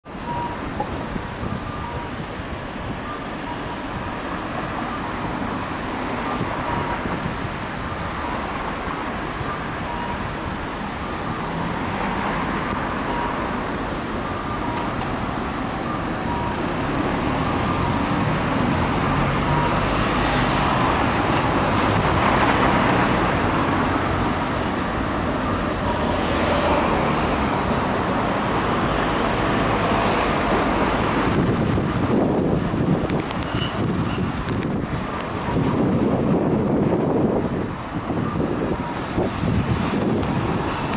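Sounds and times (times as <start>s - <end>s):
cars and vans driving past: 0.0s - 40.9s
tram approaching: 0.1s - 40.9s.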